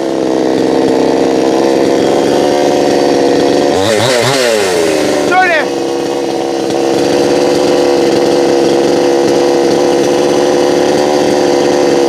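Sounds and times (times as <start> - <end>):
two-stroke chainsaw running: 0.0 - 12.0.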